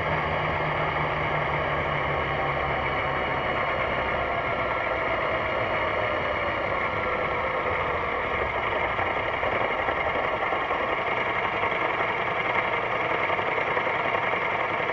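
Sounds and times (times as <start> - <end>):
scooter engine running: 0.0 - 14.9.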